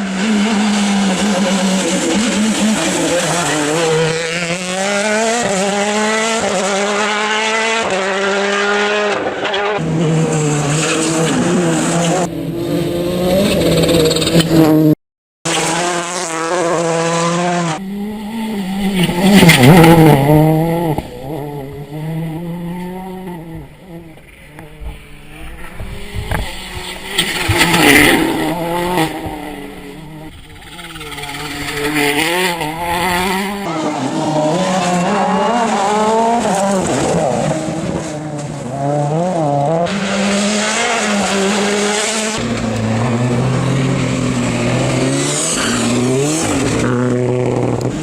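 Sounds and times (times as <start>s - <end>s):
rally car engines at full throttle: 0.0s - 48.0s.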